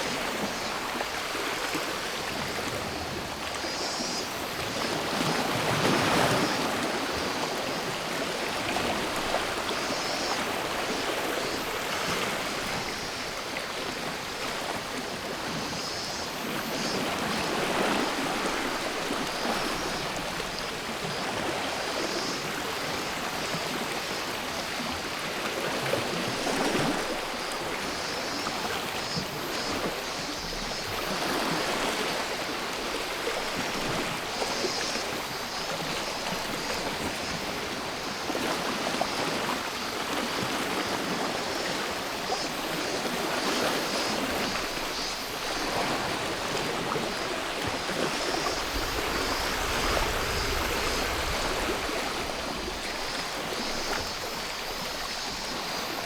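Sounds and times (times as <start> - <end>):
cicadas chorus: 0.0 - 56.0
small waves washing onto shore: 0.0 - 56.0.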